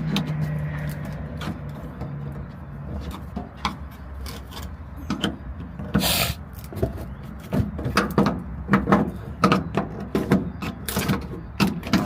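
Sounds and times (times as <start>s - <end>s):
hand tools clicking and knocking: 0.0s - 6.0s, 6.7s - 12.0s.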